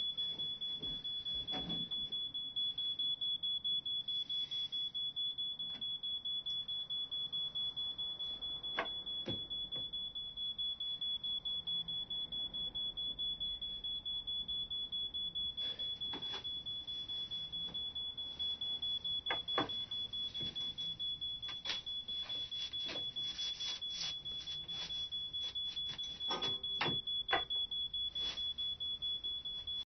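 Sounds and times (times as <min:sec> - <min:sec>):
pulsing electronic alarm tone: 0:00.0 - 0:29.8.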